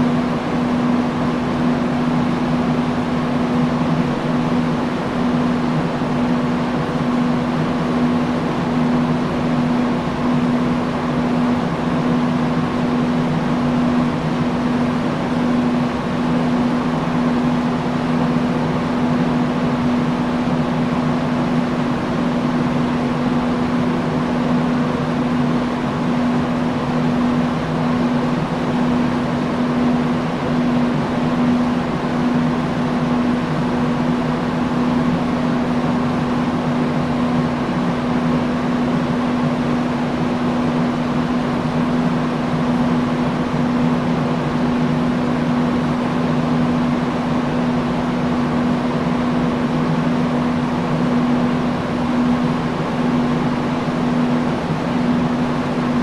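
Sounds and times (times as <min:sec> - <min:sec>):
industrial fan air rush: 0:00.0 - 0:56.0
low motor hum: 0:00.0 - 0:56.0.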